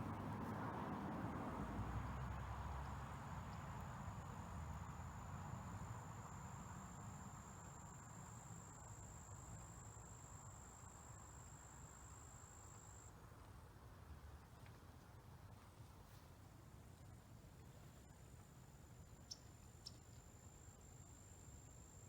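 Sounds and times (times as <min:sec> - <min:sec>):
faint low background noise: 0:00.0 - 0:22.0.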